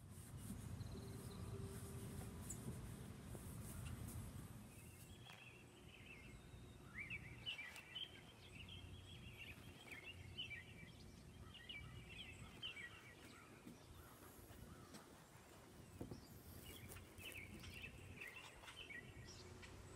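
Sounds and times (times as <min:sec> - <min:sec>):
bird chirping: 0:00.4 - 0:02.8, 0:03.4 - 0:19.9.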